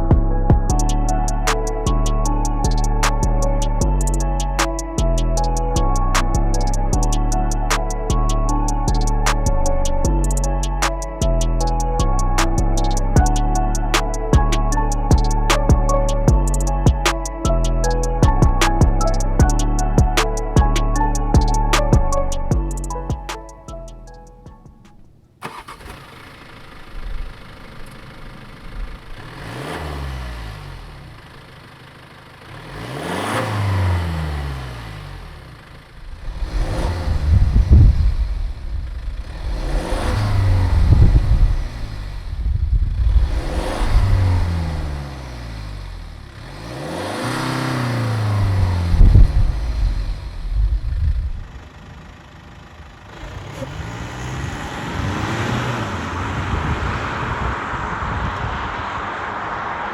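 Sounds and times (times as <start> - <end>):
diesel engine idling and revving: 0.0 - 24.5, 25.4 - 59.9.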